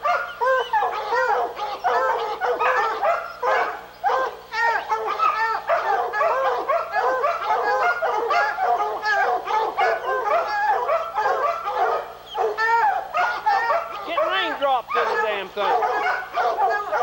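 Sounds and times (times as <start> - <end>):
hounds barking and whining: 0.0 - 17.0.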